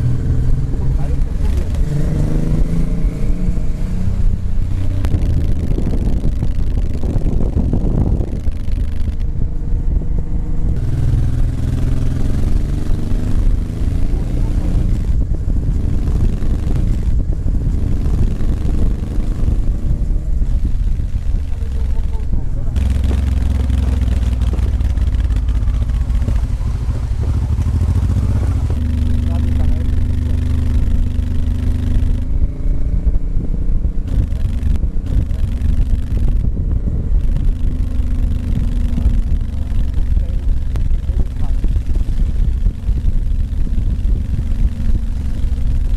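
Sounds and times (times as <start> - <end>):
motorcycle engine accelerating: 0.0 - 45.9
wind rumble on microphone: 0.0 - 45.9.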